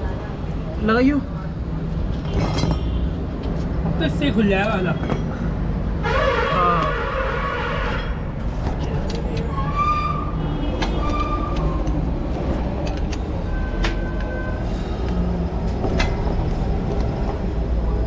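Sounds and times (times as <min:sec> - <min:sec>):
motor vehicles rumbling: 0:00.0 - 0:18.0.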